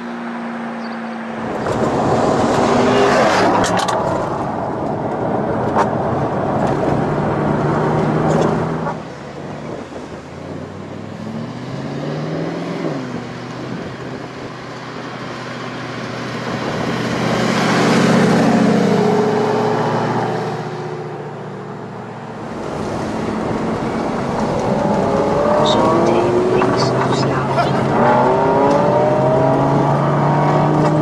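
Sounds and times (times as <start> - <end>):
car engines accelerating: 0.0 - 31.0.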